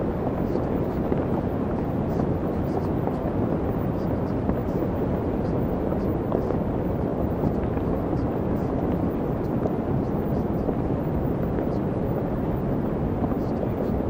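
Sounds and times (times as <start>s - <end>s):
steady low rumbling noise: 0.0s - 14.0s.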